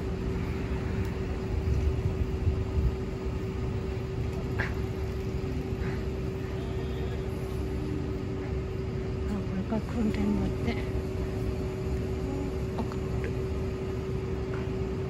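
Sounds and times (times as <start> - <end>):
fire vehicles idling: 0.0 - 15.0.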